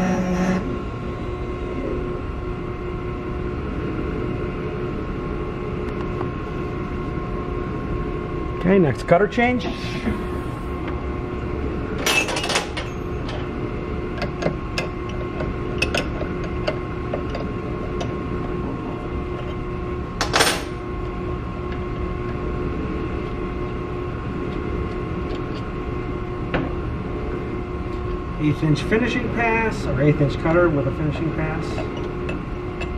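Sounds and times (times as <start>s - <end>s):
steady machine hum: 0.0s - 32.9s.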